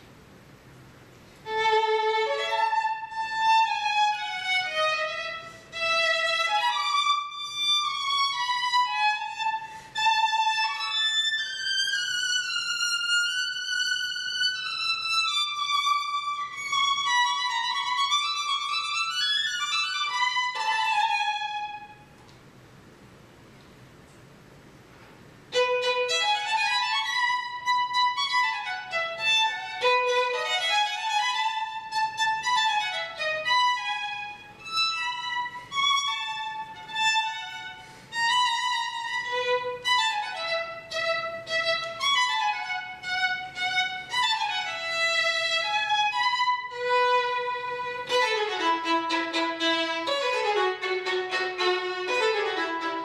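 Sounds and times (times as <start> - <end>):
solo violin: 1.3 - 22.2, 25.4 - 53.0.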